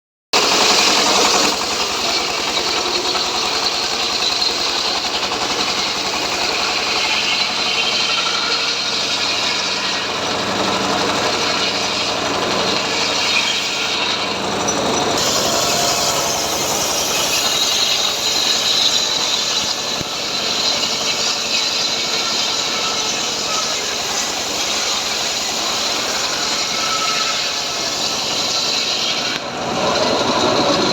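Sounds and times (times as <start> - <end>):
engine drone: 0.4 - 30.9
hissing saw cutting logs: 0.4 - 30.9.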